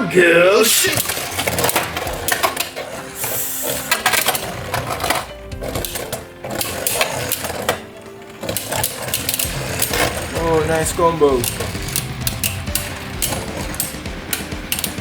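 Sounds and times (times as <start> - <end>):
background music: 0.0 - 15.0
spinning tops clattering: 0.8 - 15.0.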